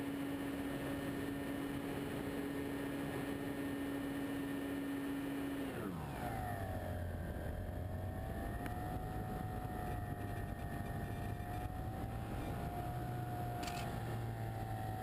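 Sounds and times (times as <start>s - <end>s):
model airplane engine and propeller: 0.0s - 15.0s.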